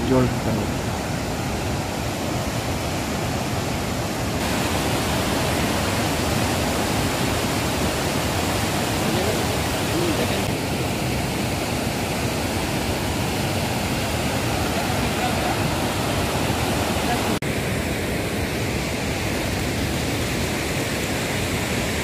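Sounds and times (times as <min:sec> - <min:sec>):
river rapids roaring: 0:00.0 - 0:22.0.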